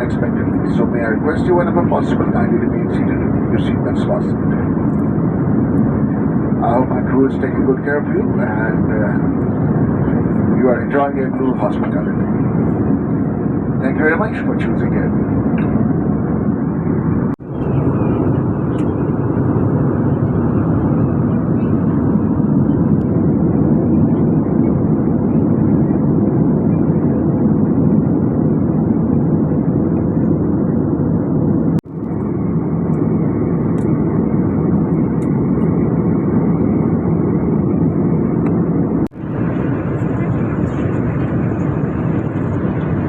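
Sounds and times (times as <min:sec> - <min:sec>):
airliner cabin engine roar: 0:00.0 - 0:43.0.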